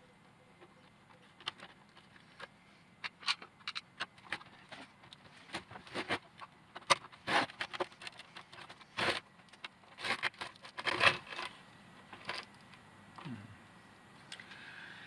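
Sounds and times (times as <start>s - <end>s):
plastic parts clicking and scraping: 0.6s - 12.8s.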